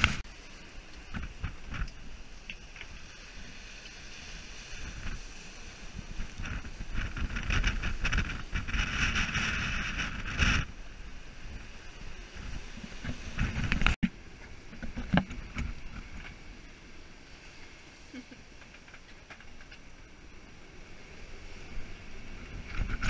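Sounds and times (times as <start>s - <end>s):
wind and water rushing: 0.0s - 23.0s.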